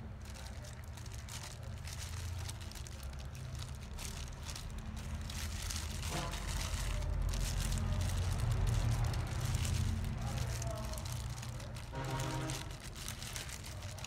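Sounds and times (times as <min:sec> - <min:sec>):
plastic glove crinkling: 0:00.0 - 0:14.0.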